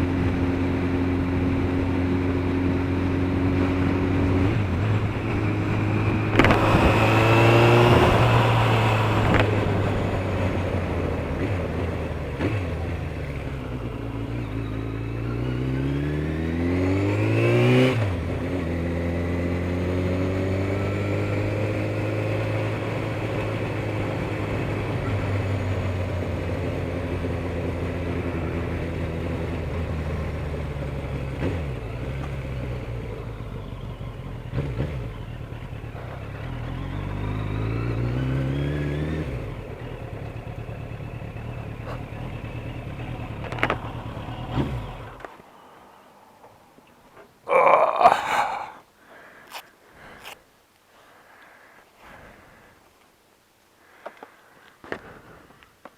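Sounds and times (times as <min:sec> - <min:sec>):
motorcycle engine accelerating: 0:00.0 - 0:45.8.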